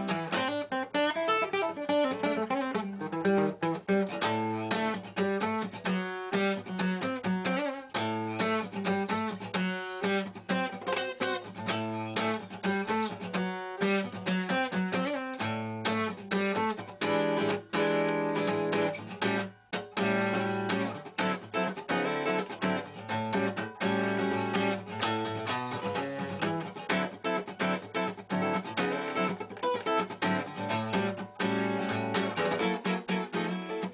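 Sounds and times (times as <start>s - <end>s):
guitar music: 0.0s - 33.9s.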